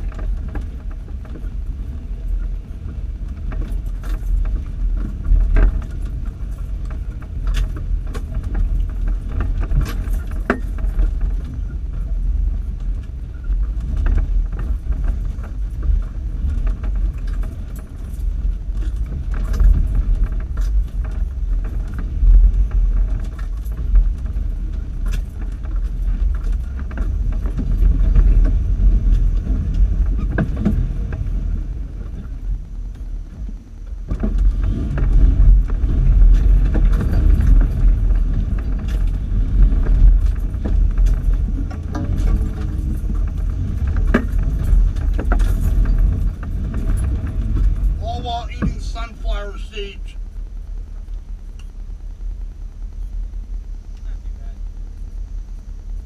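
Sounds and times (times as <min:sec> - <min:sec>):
clanks and rattles: 0:00.0 - 0:49.0
off-road vehicle engine rumbling: 0:00.0 - 0:56.0.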